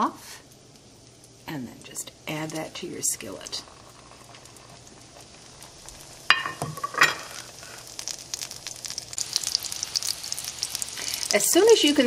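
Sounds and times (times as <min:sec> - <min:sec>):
chicken sizzling in a skillet: 0:00.0 - 0:12.0.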